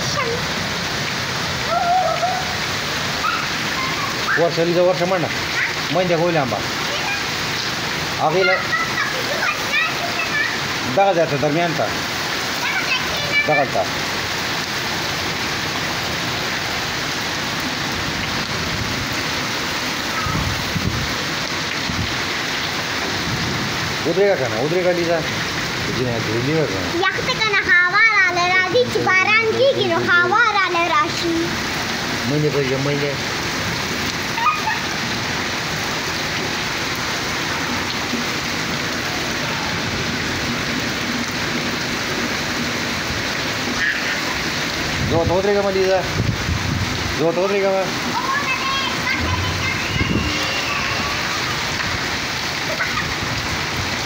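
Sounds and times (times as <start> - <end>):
rain on a concrete roof: 0.0 - 54.0.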